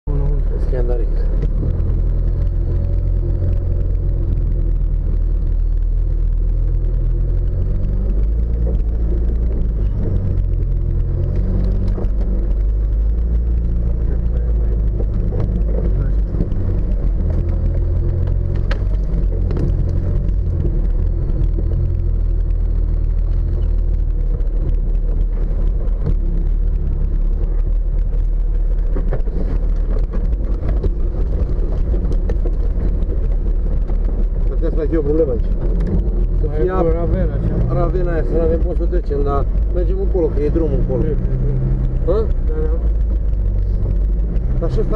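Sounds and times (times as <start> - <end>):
vehicle engine low drone: 0.0 - 44.9
vehicle body knocking and rattling: 0.7 - 44.9.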